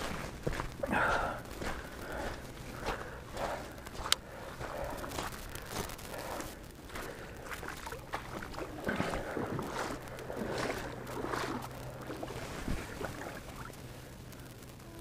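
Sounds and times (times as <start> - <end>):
small waves lapping: 0.0 - 14.4.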